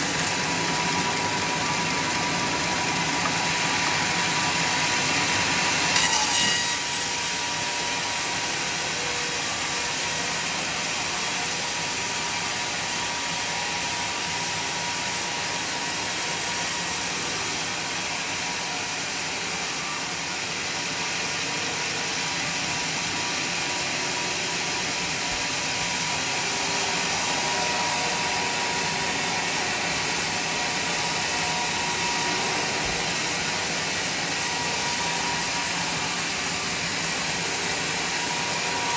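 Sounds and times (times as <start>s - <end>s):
thin steady whine: 0.0s - 38.9s.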